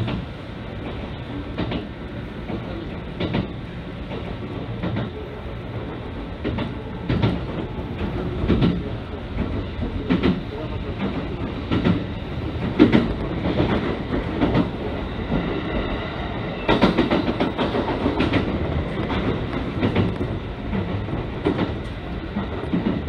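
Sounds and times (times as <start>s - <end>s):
train wheels rumbling on rails: 0.0s - 23.0s
wheels clicking over rail joints: 0.9s - 5.2s, 6.4s - 15.5s, 16.7s - 23.0s.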